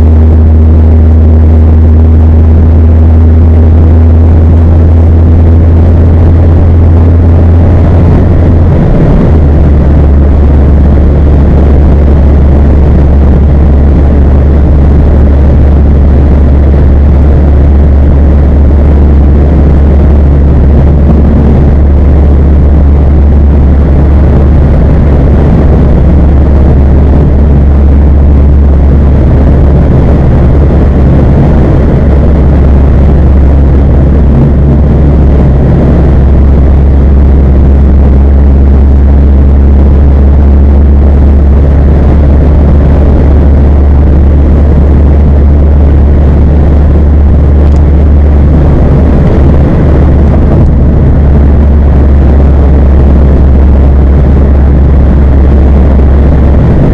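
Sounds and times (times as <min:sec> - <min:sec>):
deep car exhaust drone: 0:00.0 - 0:56.9.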